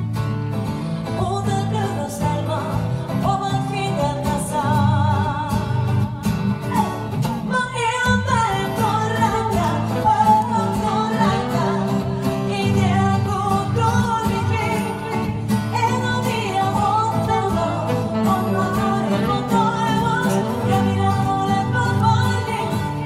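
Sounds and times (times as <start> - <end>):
strummed acoustic guitar: 0.0 - 23.0
saxophone: 0.7 - 23.0
woman singing into a microphone: 1.0 - 23.0.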